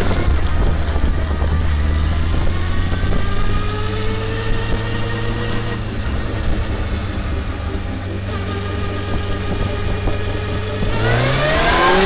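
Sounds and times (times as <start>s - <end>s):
motorcycle engine running: 0.0s - 12.0s
road rumble: 0.0s - 12.0s
wind noise: 0.0s - 12.0s.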